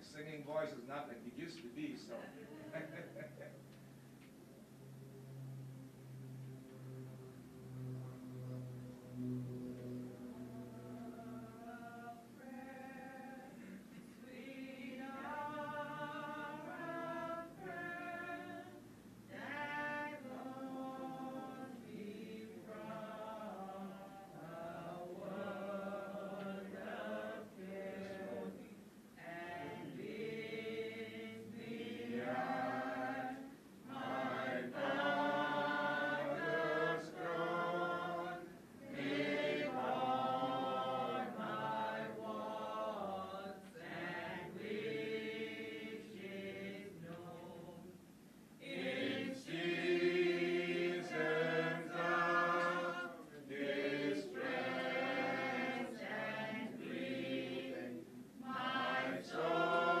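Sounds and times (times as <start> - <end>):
voices singing: 9.4 - 60.0.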